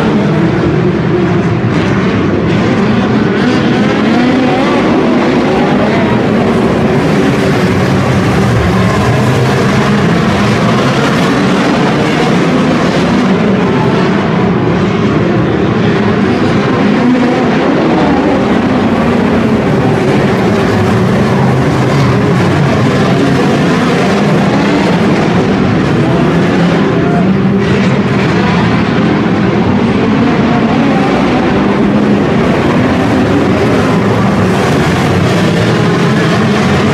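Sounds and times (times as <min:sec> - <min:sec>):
race car engines: 0:00.0 - 0:36.9.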